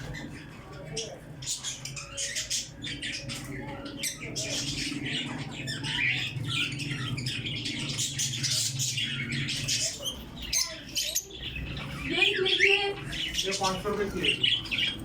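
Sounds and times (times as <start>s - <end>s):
lovebirds chattering and squawking: 0.0s - 15.0s.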